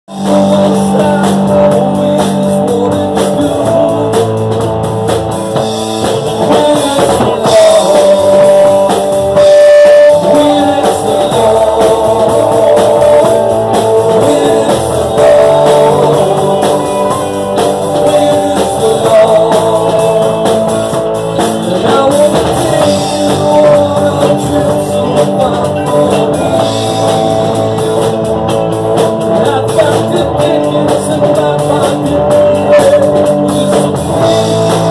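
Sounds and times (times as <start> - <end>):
live blues-rock band: 0.1 - 34.9
man singing: 0.1 - 34.9.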